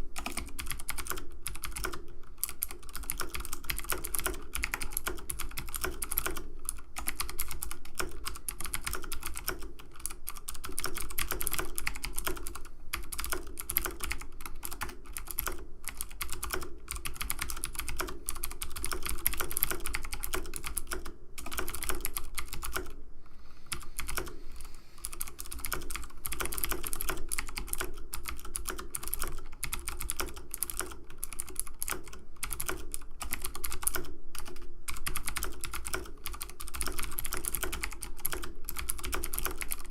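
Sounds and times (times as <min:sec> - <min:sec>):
faint steady hum: 0:00.0 - 0:39.9
keyboard typing: 0:00.2 - 0:23.0, 0:23.7 - 0:24.4, 0:25.0 - 0:39.9.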